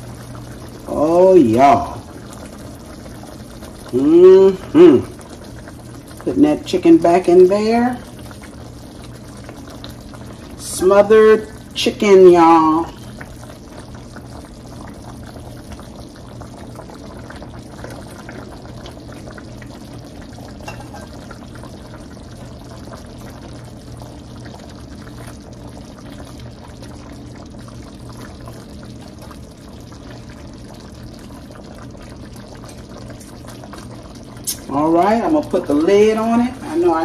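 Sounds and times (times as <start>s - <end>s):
gravy simmering and bubbling: 0.0s - 37.0s.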